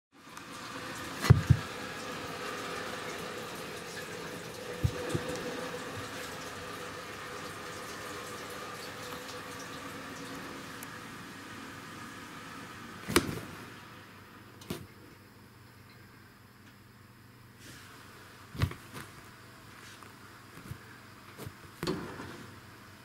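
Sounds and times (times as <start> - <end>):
faint hum: 0.2 - 23.0
indoor background hiss: 0.2 - 23.0.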